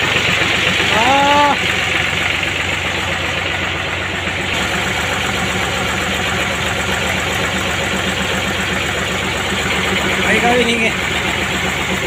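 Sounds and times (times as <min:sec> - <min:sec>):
lorry engine idling: 0:00.0 - 0:12.0.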